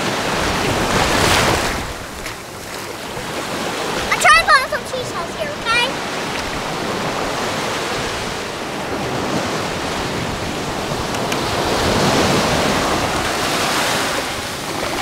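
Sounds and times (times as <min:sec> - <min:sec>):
surf washing over sand: 0:00.0 - 0:15.0.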